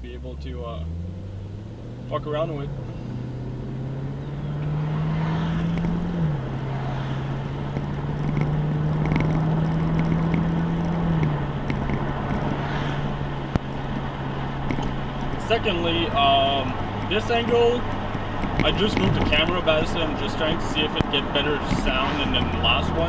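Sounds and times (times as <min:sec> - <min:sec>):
car engine revving: 0:00.0 - 0:23.0
road noise: 0:00.0 - 0:23.0.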